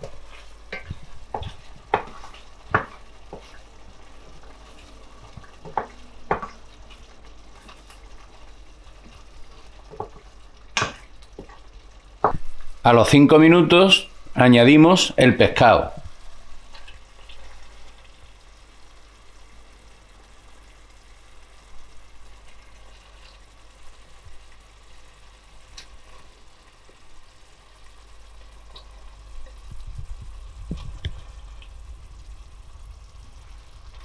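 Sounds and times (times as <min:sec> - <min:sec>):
sauce simmering and popping: 0:00.0 - 0:12.8, 0:16.0 - 0:34.0.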